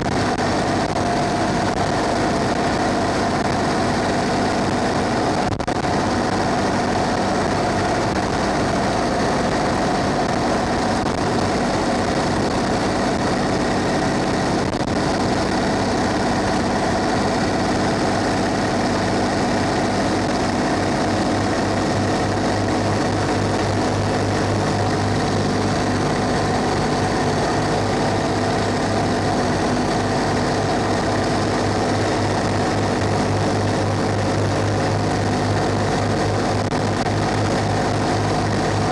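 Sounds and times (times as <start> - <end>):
bus diesel engine running: 0.0 - 38.9
low pulsing engine hum: 0.0 - 38.9.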